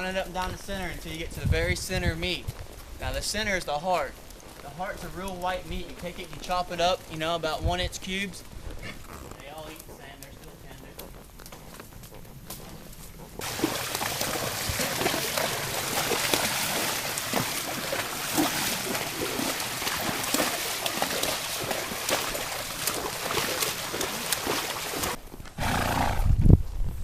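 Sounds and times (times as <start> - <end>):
crackles: 0.0 - 25.8
horse hooves on a trail: 0.0 - 27.0.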